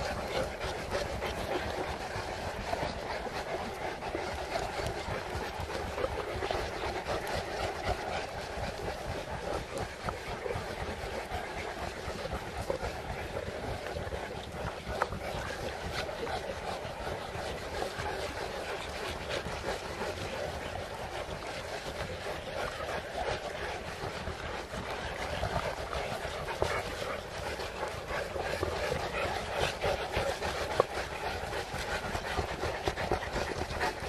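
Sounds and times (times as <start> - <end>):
dogs panting: 0.0 - 34.0.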